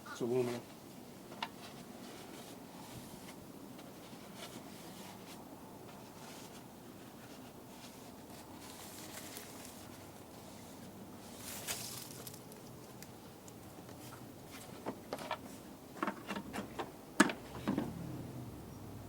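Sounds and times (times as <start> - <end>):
hands rustling parts: 1.3 - 17.4.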